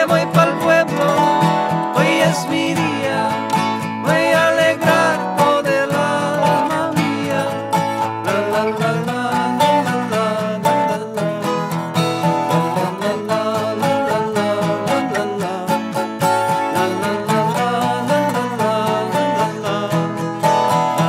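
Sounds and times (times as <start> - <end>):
acoustic guitar: 0.0 - 21.0
person singing: 0.0 - 21.0
resonator guitar: 0.0 - 21.0.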